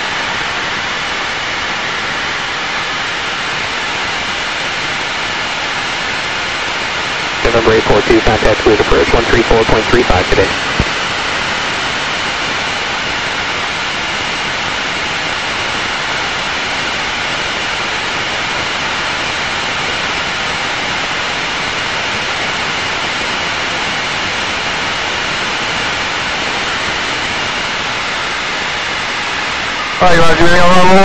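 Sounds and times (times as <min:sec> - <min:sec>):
jet engine hiss in cockpit: 0:00.0 - 0:31.0.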